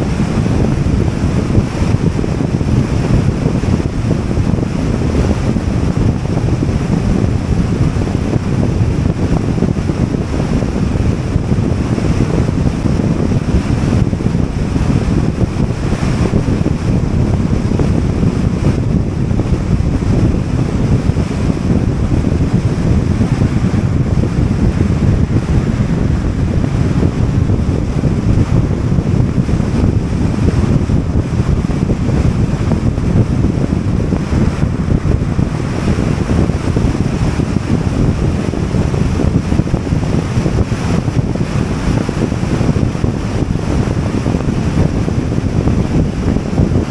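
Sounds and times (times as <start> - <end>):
vehicle rumble at highway speed: 0.0 - 46.9
wind buffeting the microphone: 0.0 - 46.9.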